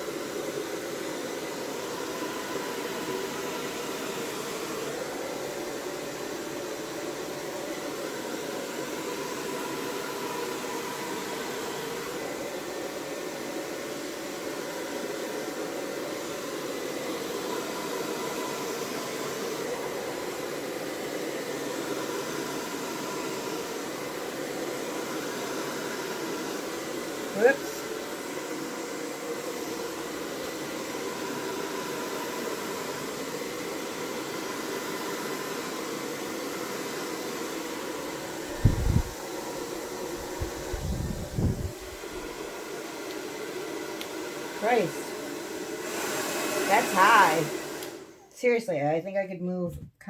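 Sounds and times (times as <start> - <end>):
hair dryer blowing air: 0.0 - 49.0.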